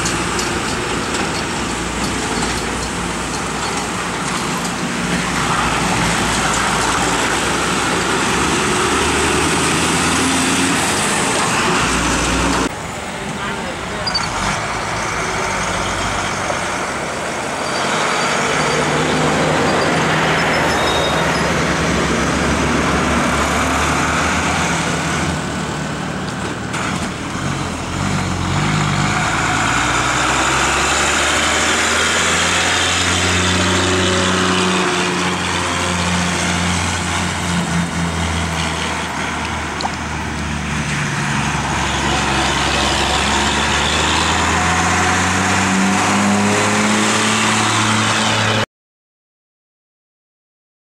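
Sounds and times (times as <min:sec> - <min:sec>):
lorry diesel engines working: 0:00.0 - 0:48.6.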